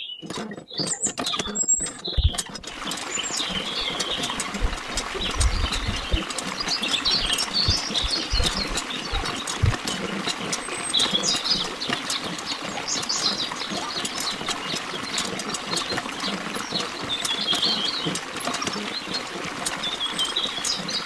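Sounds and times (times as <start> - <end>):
birds chirping: 0.0 - 21.0
water splashing into pool: 0.2 - 21.0.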